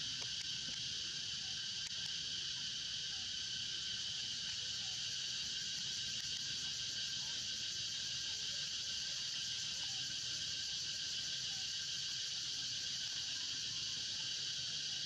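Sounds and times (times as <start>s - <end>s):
insects buzzing trill: 0.0s - 15.0s.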